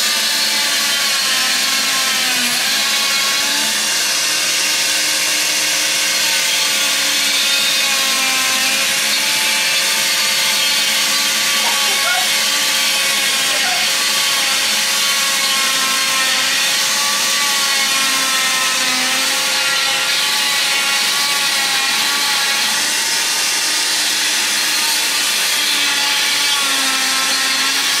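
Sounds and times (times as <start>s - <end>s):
cast saw whirring: 0.0s - 28.0s.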